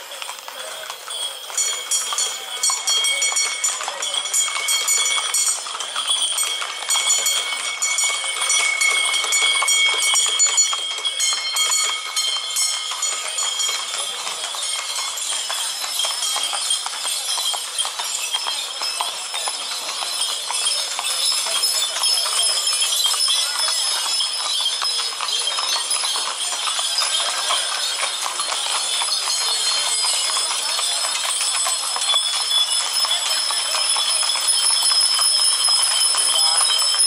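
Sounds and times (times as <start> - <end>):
horse hooves clip-clopping on pavement: 0.0 - 37.0
people chatting: 0.0 - 37.0.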